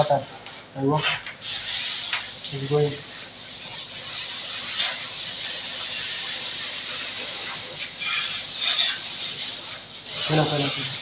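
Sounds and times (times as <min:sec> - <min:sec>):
spray jet hissing: 0:01.4 - 0:11.0.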